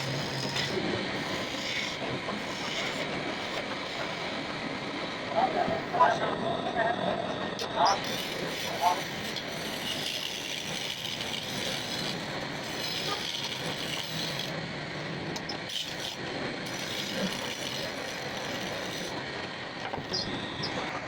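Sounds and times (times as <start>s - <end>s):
wood rubbing: 0.0s - 4.4s, 7.6s - 14.6s, 15.3s - 21.0s
woodworking machinery running: 0.0s - 21.0s.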